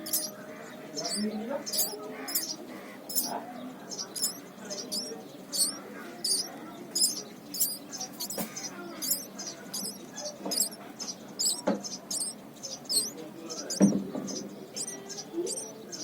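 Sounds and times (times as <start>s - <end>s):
baby bird chirping: 0.0s - 16.0s.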